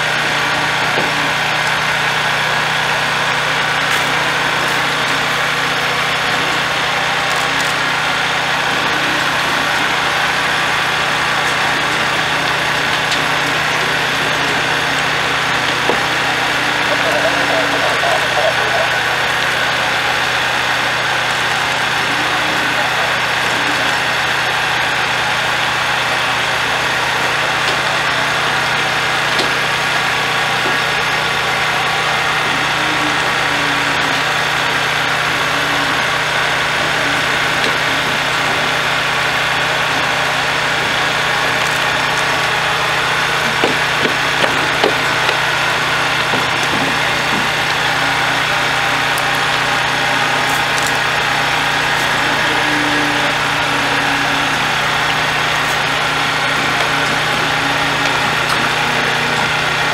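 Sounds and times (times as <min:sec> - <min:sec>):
diesel engine running steadily: 0:00.0 - 0:59.9.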